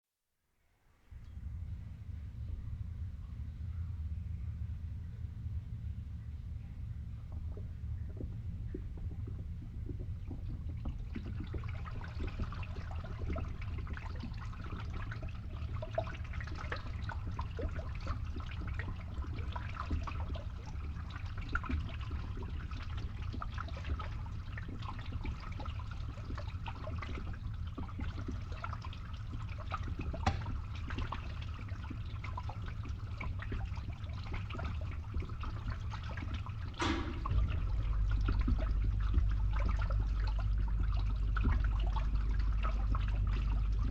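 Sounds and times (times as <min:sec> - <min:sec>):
water gurgling through a pipe: 0:01.2 - 0:43.9
pump humming: 0:01.4 - 0:43.9.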